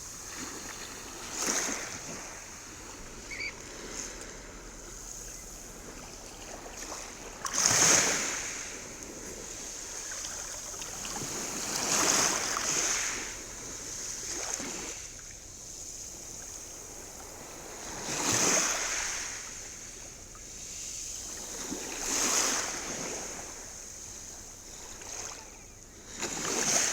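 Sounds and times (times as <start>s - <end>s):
sea waves breaking ashore: 0.0s - 26.9s.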